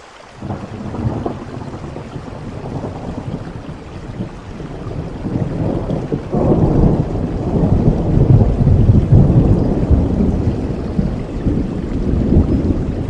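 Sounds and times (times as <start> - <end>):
steady rain: 0.0 - 13.0
thunder rumbling: 0.4 - 13.0.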